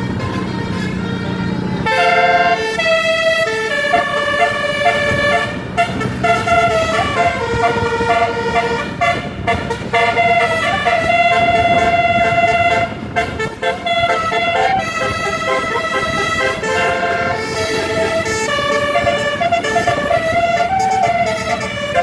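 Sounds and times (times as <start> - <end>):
bus engine rumble: 0.0 - 22.0
musical air horn playing a tune: 0.0 - 22.0.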